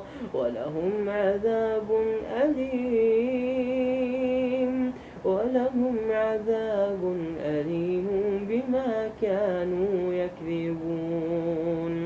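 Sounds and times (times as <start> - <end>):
person chanting melodic recitation: 0.0 - 12.0.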